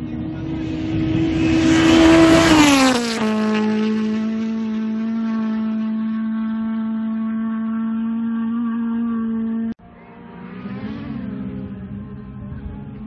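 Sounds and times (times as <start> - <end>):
race car engine passing at speed: 0.0 - 13.0.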